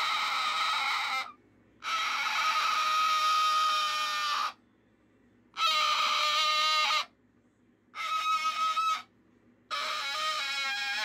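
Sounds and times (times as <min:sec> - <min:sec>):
cockatoo screeching: 0:00.0 - 0:04.6, 0:05.5 - 0:07.2, 0:07.9 - 0:11.0.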